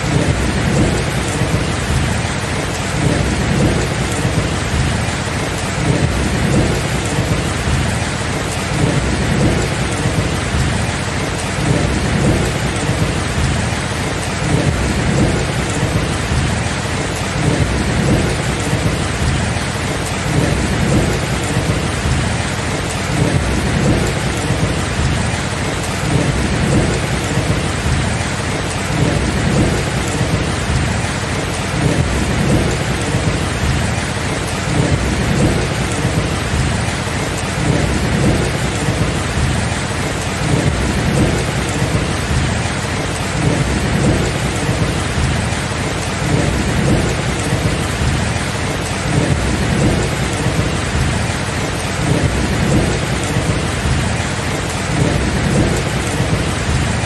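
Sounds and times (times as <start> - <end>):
heavy rain: 0.0 - 57.0
low thunder rumble: 0.0 - 57.0.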